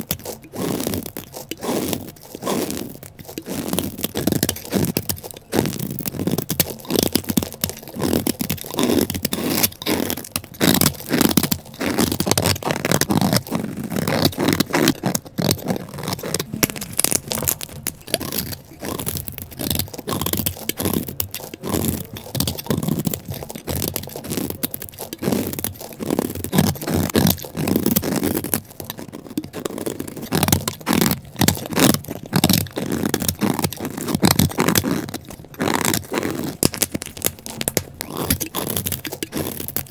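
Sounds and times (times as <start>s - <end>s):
brittle block crunching and scraping: 0.0s - 39.9s.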